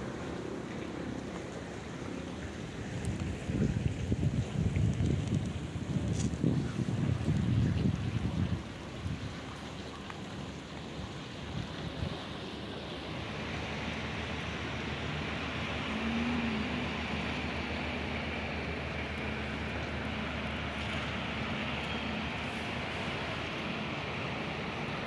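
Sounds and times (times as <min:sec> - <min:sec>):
steady outdoor rushing noise: 0:00.0 - 0:25.0.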